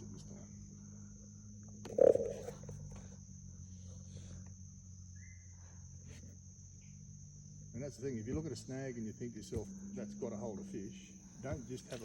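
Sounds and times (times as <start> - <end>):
insects droning: 0.0 - 12.0
low steady hum: 0.0 - 12.0.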